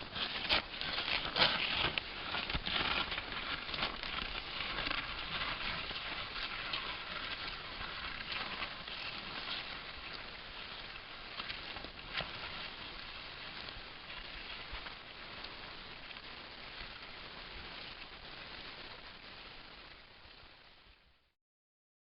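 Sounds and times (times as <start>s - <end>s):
skis scraping over snow: 0.0s - 20.9s.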